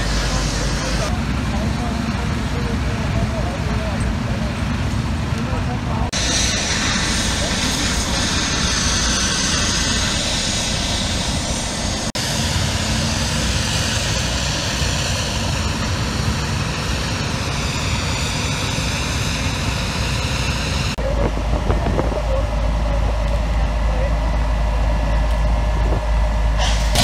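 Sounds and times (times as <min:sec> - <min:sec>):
fire engine pumps droning: 0:00.0 - 0:27.0.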